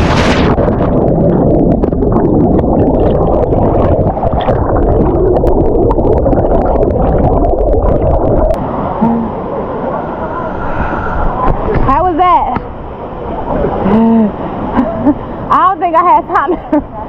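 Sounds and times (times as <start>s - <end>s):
underwater rushing and bubbling: 0.0s - 15.5s.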